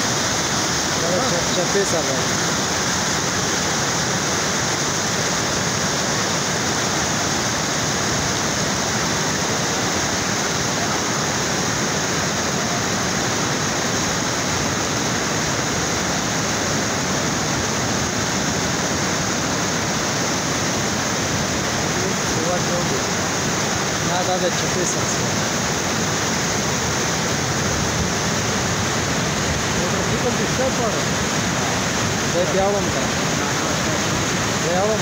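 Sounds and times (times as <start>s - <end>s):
floodwater pouring over a weir: 0.0s - 35.0s.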